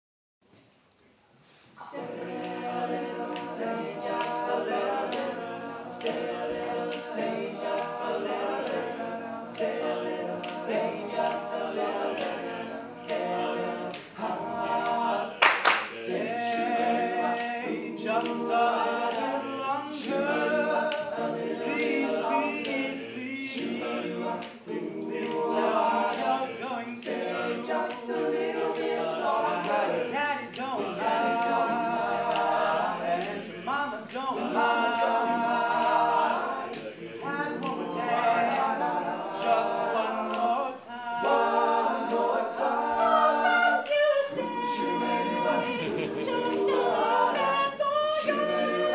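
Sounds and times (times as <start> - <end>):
male group singing in harmony: 1.8 - 48.9.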